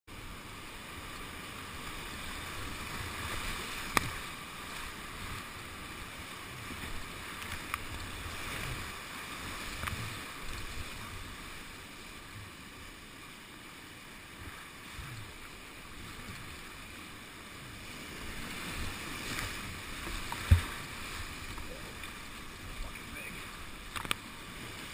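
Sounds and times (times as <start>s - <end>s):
whitewater rapids rushing: 0.2s - 24.9s.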